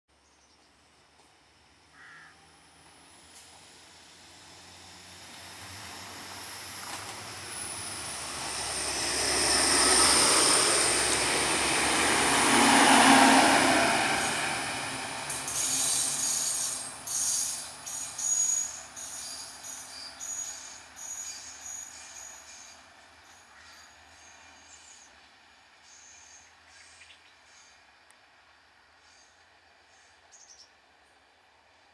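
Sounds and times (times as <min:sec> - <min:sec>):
diesel train passing: 0:01.4 - 0:31.9.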